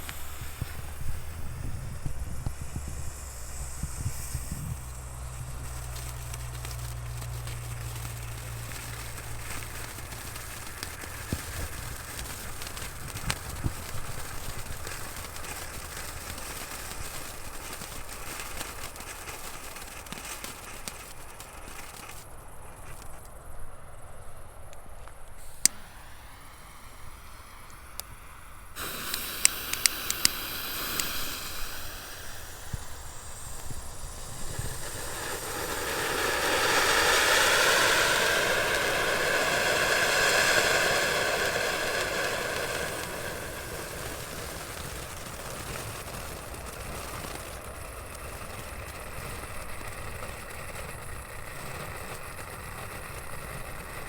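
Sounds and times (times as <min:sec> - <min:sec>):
fireworks crackling and popping: 0:00.0 - 0:23.4, 0:25.2 - 0:54.0.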